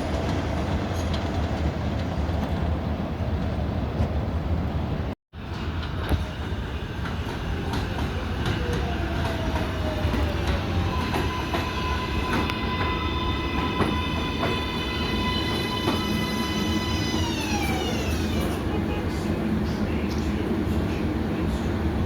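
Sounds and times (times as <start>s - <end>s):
subway train rumble on rails: 0.0s - 22.0s.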